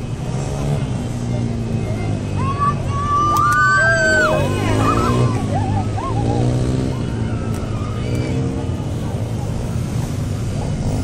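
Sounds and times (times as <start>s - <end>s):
vehicle engines running: 0.0s - 11.0s.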